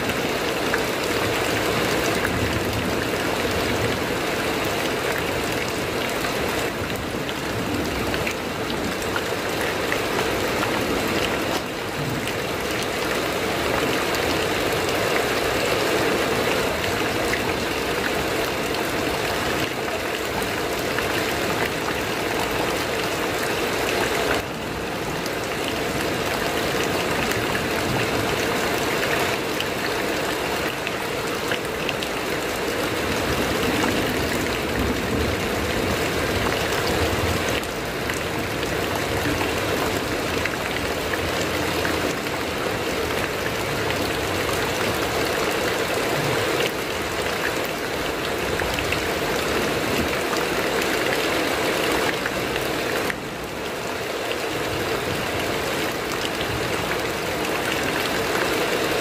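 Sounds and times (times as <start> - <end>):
heavy rain on metal roof: 0.0 - 59.0.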